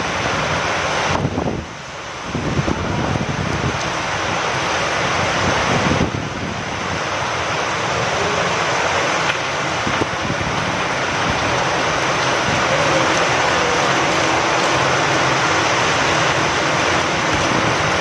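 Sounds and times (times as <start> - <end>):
rain falling with wind: 0.0 - 18.0.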